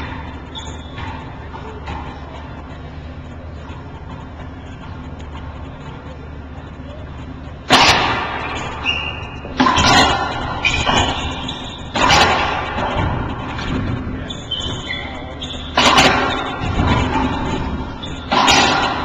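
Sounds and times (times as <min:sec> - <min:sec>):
shoes squeaking on court: 0:00.0 - 0:07.2, 0:08.4 - 0:19.0.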